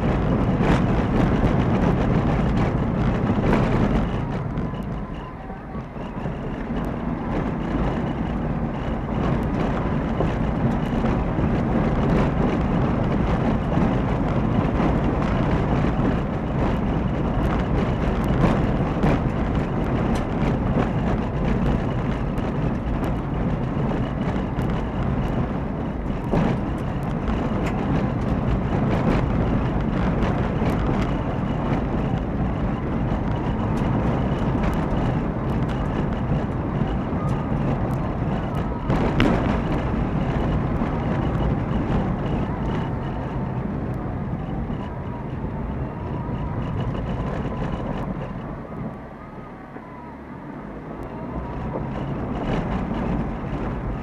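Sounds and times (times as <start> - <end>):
car tyre and engine noise: 0.0 - 54.0.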